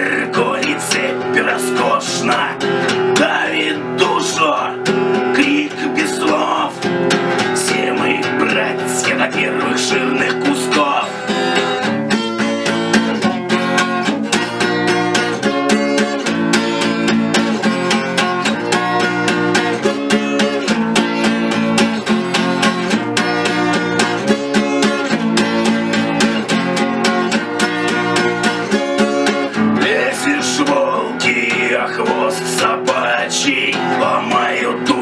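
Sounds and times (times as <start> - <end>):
acoustic guitar strumming chords: 0.0 - 35.0.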